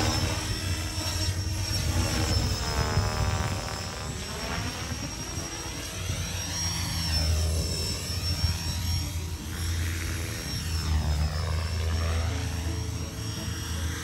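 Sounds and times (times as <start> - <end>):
high motor whine: 0.0 - 14.0
rc helicopter rotor thrum: 0.0 - 14.0.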